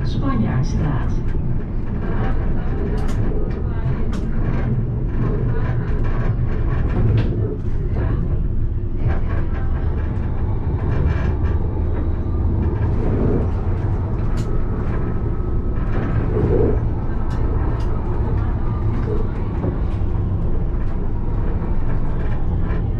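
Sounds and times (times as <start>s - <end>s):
tram rumbling on rails: 0.0s - 22.9s.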